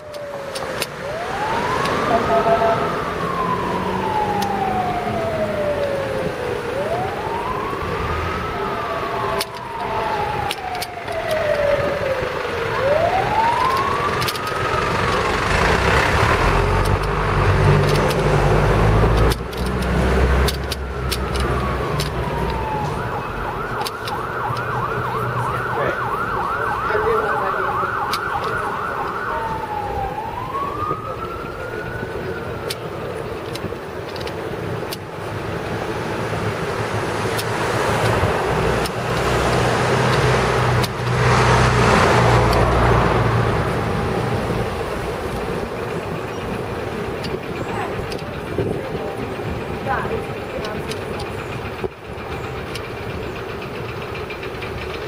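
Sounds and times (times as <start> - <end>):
city traffic noise: 0.0 - 55.0
emergency siren wailing and yelping: 0.0 - 55.0.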